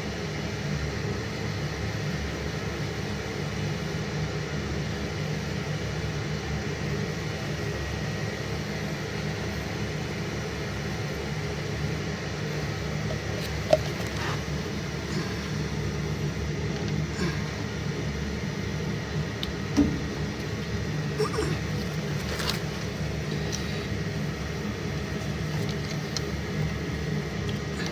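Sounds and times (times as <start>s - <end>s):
low mechanical hum: 0.0s - 27.9s.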